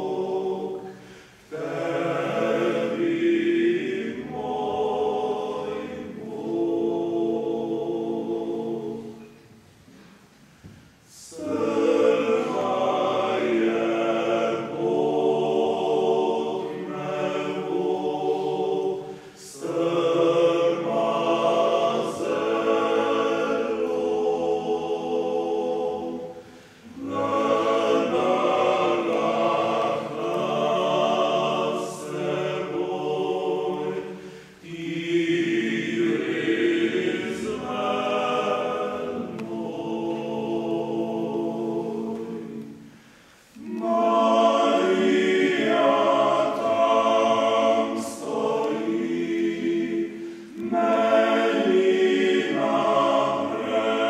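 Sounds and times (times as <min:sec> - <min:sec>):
male choir singing a cappella: 0:00.0 - 0:09.4, 0:11.1 - 0:54.0.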